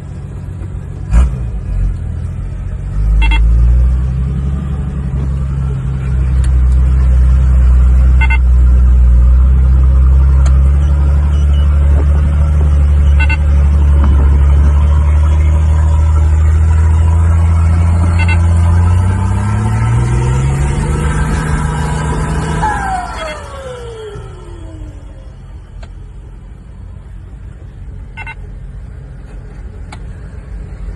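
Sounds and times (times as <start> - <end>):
engine droning under load: 0.0 - 30.9.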